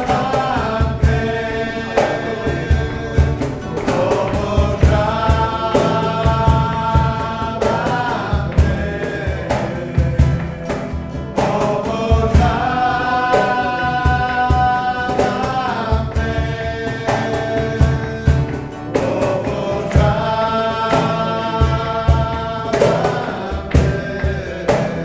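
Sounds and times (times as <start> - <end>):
man and woman singing: 0.0 - 25.0
steady rhythmic beat: 0.0 - 25.0
strummed acoustic guitar: 0.0 - 25.0.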